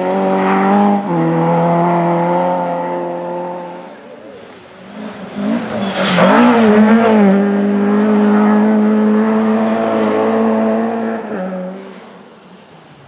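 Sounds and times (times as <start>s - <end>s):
rally car engine passing at speed: 0.0s - 12.4s.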